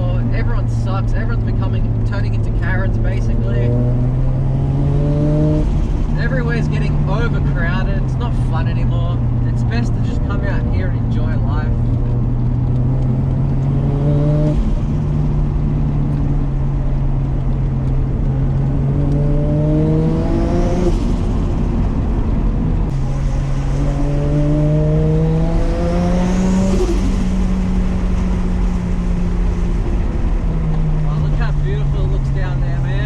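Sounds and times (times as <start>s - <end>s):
car engine drone: 0.0s - 33.0s.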